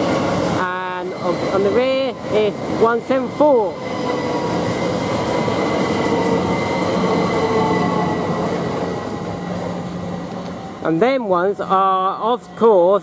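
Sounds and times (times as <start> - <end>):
electric train whine: 0.0 - 12.9
rail and wheel noise: 0.0 - 13.0.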